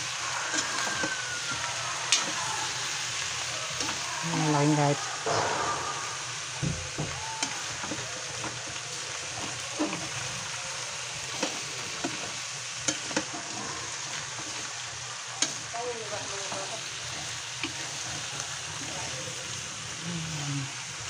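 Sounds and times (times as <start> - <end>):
meat sizzling in a wok: 0.0 - 21.0.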